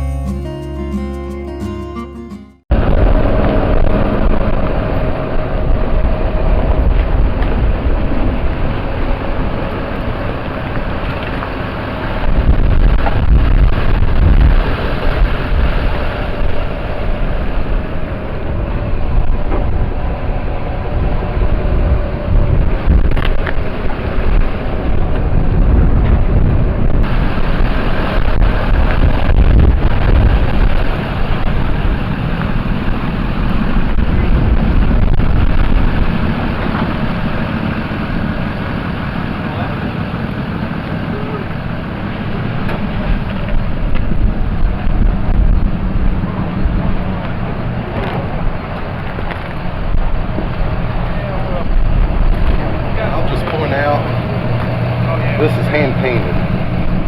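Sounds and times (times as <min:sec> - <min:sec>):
vehicle rumbling: 0:02.7 - 0:57.0
wind noise on microphone: 0:02.7 - 0:57.0.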